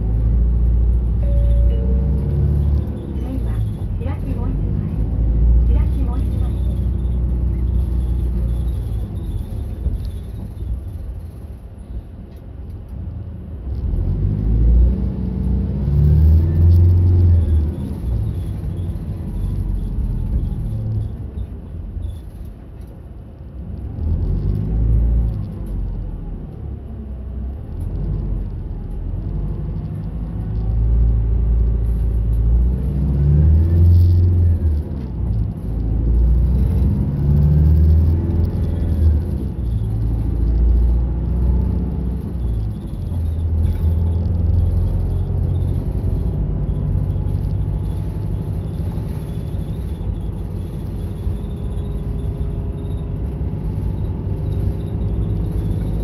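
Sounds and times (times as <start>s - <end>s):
bus diesel engine accelerating: 0.0s - 56.0s
road noise: 0.0s - 56.0s.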